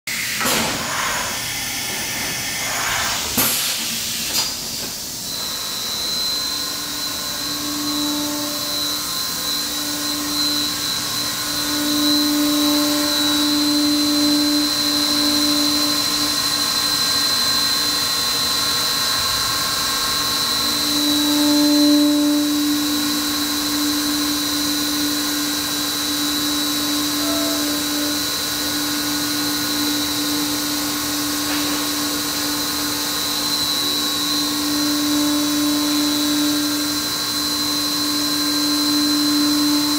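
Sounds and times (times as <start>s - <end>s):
steady high machine whine: 0.1s - 39.9s
low motor tones: 5.3s - 18.0s, 19.0s - 39.9s.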